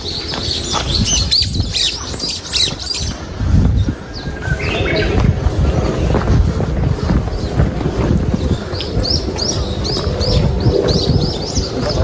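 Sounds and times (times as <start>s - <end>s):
forest birds chirping: 0.0s - 12.0s
low rumble on microphone: 0.0s - 12.0s.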